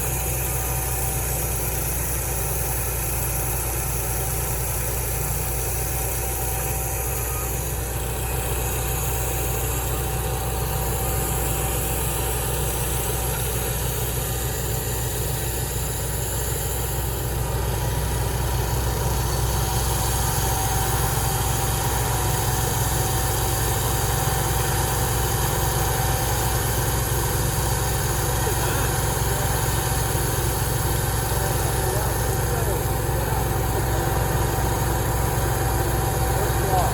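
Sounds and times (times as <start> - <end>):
engine running steadily: 0.0 - 36.9.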